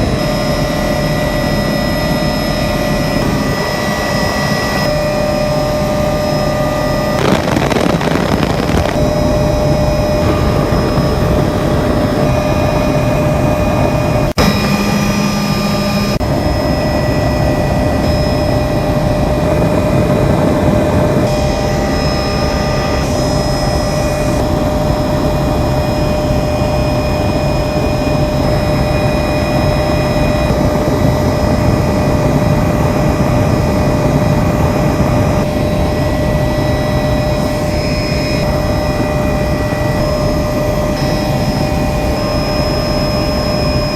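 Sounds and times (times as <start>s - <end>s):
helicopter engine whine: 0.0s - 43.9s.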